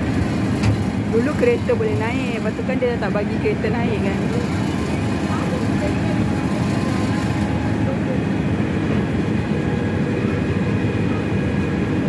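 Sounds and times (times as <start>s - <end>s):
tram engine rumbling: 0.0s - 12.0s.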